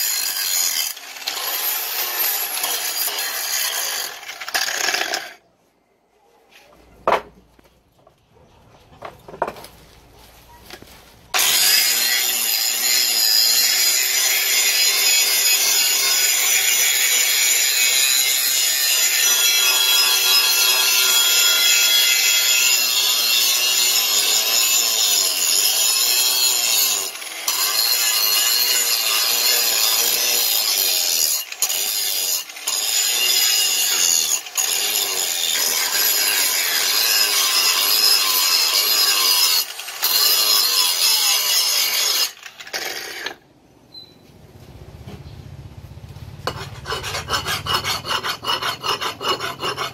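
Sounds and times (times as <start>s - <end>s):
angle grinder grinding steel: 0.0s - 5.4s, 11.4s - 43.4s, 46.4s - 49.9s.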